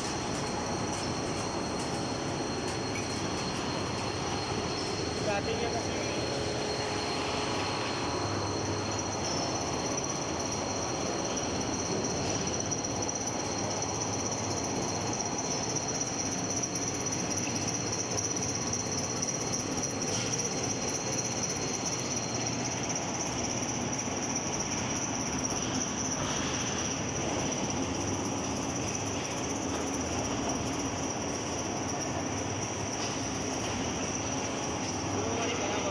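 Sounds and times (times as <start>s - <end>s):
factory machinery whine: 0.0s - 35.9s
lower machine whine: 0.0s - 35.9s.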